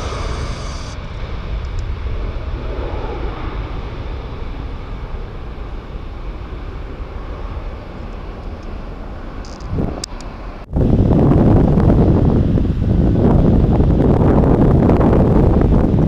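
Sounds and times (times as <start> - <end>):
jet engine rumble: 0.0 - 16.0
wind on microphone: 0.0 - 16.0.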